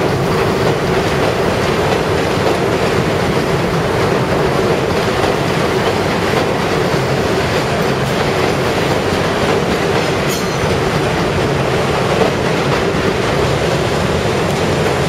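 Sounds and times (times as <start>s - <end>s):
elevated train rumbling past: 0.0s - 15.0s.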